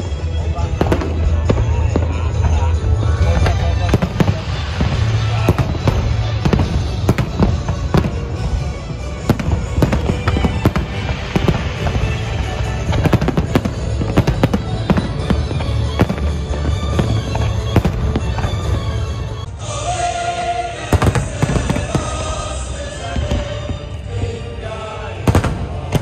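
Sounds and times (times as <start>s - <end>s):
fireworks crackling: 0.0s - 26.0s
fireworks bangs: 0.6s - 19.5s, 20.9s - 24.4s, 25.2s - 26.0s.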